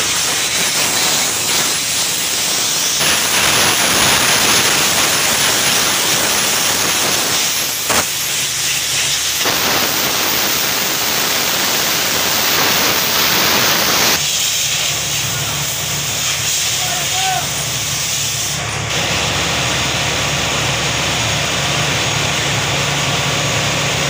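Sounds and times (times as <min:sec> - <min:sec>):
drilling rig air rush: 0:00.0 - 0:24.0.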